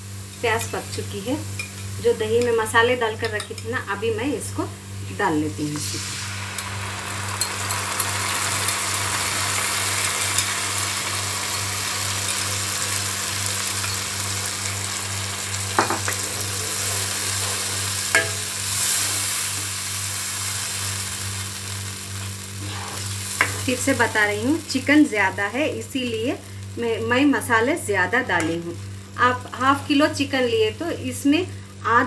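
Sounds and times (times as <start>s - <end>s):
marinade sizzling in hot oil: 0.0s - 32.0s.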